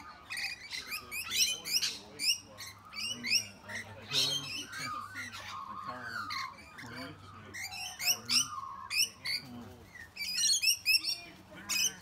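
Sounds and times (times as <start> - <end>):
lorikeets screeching: 0.0 - 12.0.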